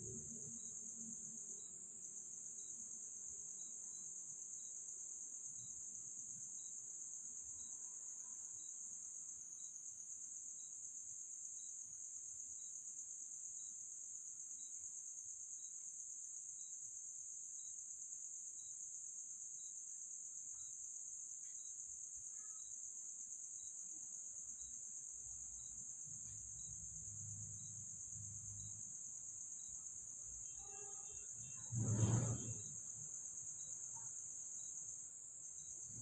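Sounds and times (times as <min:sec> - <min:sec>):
crickets chirring: 0:00.0 - 0:36.0.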